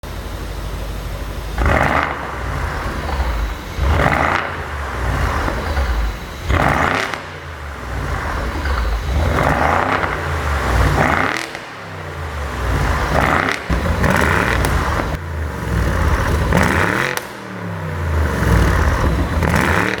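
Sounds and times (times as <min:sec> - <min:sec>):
car engine revving: 0:00.0 - 0:20.0
exhaust crackling and popping: 0:00.0 - 0:20.0.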